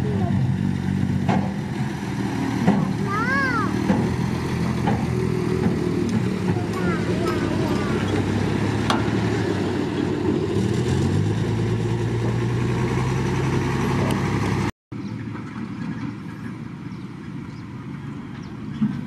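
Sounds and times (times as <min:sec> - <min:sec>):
dump truck engine running: 0:00.0 - 0:19.0.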